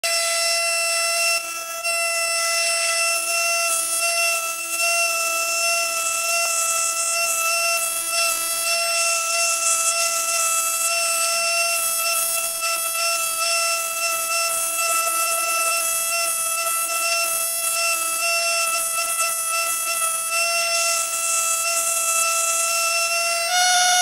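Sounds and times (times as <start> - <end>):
engraving scribe whining: 2.4 - 24.0.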